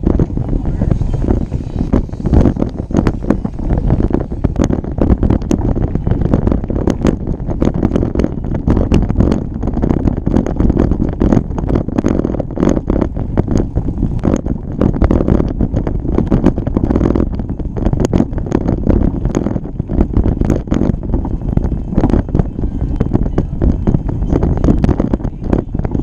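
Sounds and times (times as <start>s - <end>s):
bike rattling on rough trail: 0.0s - 26.0s
wind buffeting microphone: 0.0s - 26.0s.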